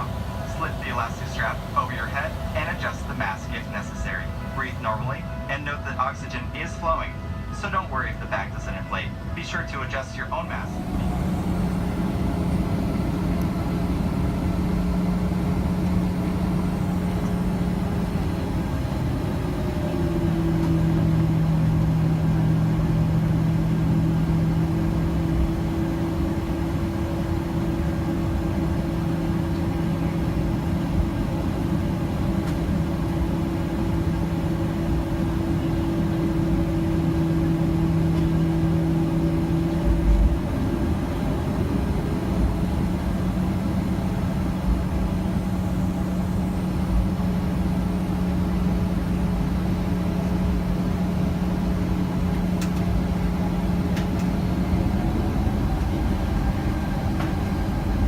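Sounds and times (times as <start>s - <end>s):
jet engine cabin drone: 0.0s - 58.0s.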